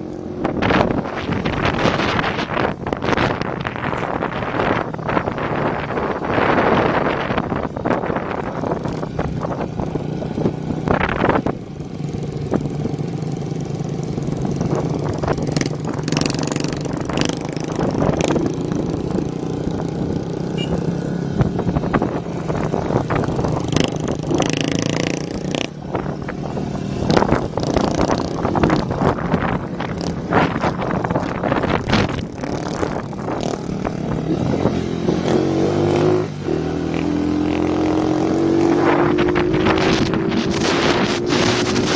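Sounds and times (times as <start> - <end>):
motorcycle engine open exhaust: 0.0 - 41.9
wind noise on microphone: 0.0 - 41.9.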